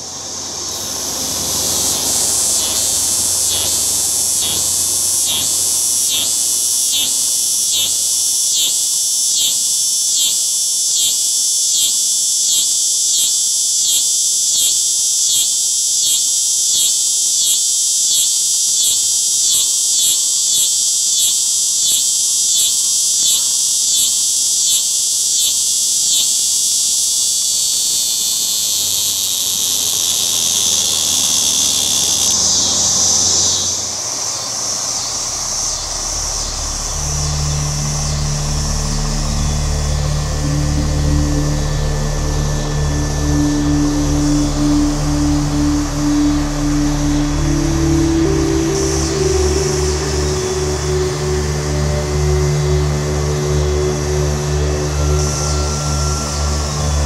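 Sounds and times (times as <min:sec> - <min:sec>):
cicada buzzing: 0:00.0 - 0:57.0.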